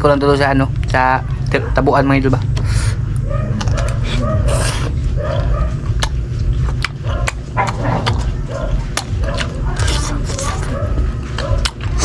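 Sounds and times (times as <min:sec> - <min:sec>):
steady low rumble: 0:00.0 - 0:12.0
man chewing with mouth clicks: 0:02.4 - 0:12.0.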